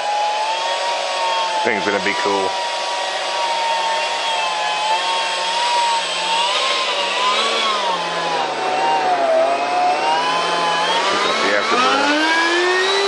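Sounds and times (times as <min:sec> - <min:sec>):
electric ducted fan whine: 0:00.0 - 0:13.0.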